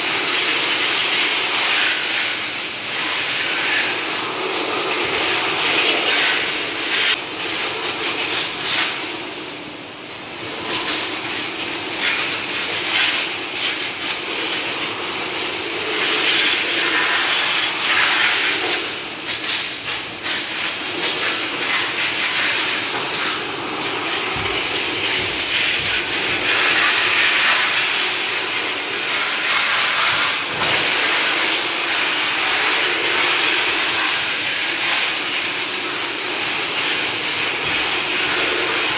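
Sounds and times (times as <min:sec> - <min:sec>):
high-pressure water jet hissing: 0:00.0 - 0:38.9.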